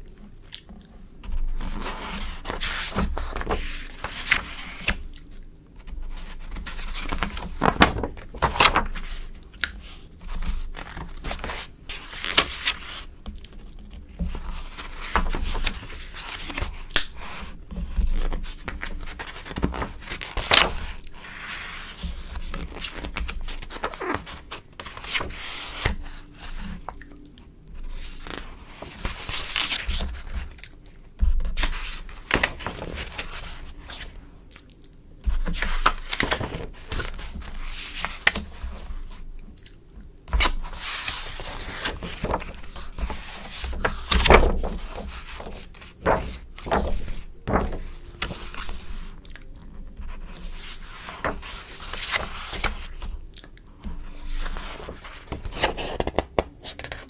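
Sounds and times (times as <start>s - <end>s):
magazine pages crackling: 1.2s - 5.1s, 5.8s - 26.9s, 27.8s - 34.2s, 35.2s - 39.3s, 40.3s - 57.0s.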